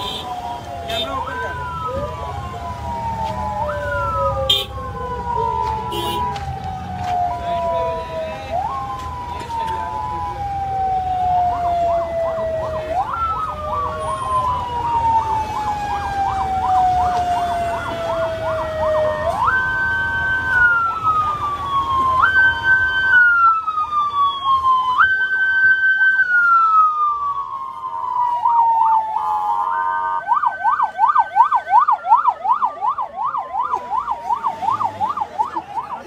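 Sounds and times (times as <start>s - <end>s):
rapidly warbling siren: 0.0s - 36.0s
wailing siren: 0.0s - 36.0s.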